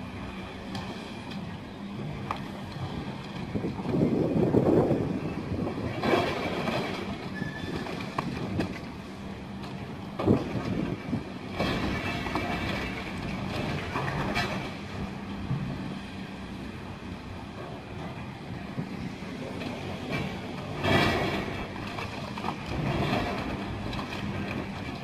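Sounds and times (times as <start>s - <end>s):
excavator running: 0.0s - 25.0s.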